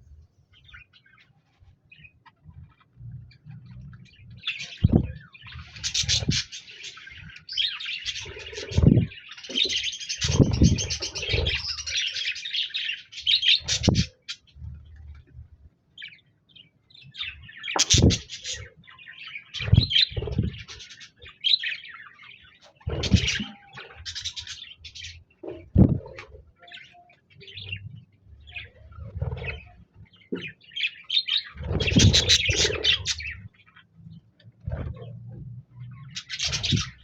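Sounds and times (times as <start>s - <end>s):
budgerigars chirping and warbling: 0.5s - 14.6s, 16.0s - 37.0s.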